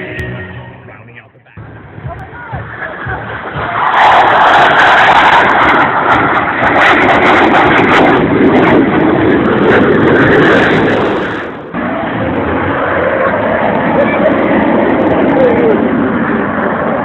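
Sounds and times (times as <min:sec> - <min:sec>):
jets roaring overhead: 0:00.0 - 0:17.0.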